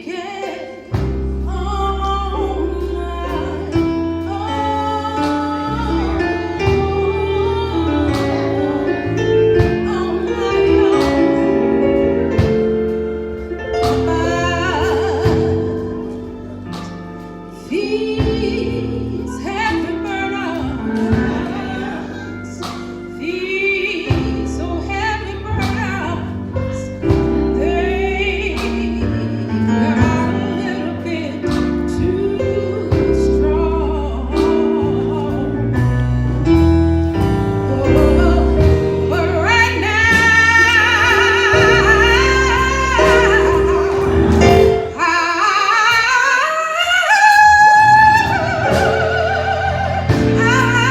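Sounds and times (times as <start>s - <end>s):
gospel choir singing: 0.0s - 50.9s
instrumental accompaniment: 0.0s - 50.9s
sustained bass line: 1.0s - 45.0s, 47.4s - 50.9s.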